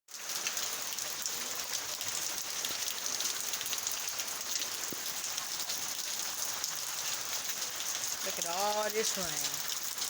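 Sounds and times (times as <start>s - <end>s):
heavy rain falling: 0.1s - 10.0s.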